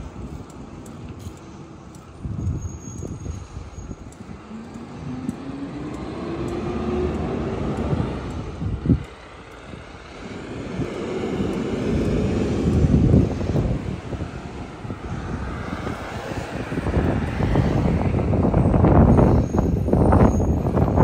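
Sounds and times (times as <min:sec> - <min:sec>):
vehicle approaching: 0:04.1 - 0:21.0.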